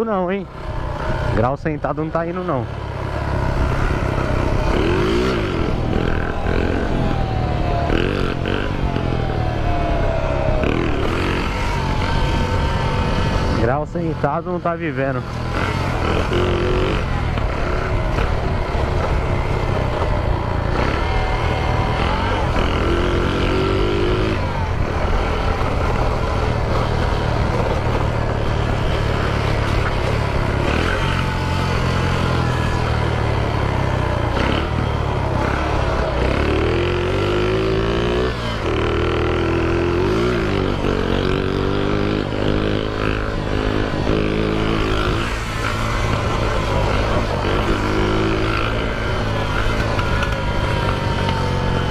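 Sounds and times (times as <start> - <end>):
moped engine revving: 0.0 - 51.9.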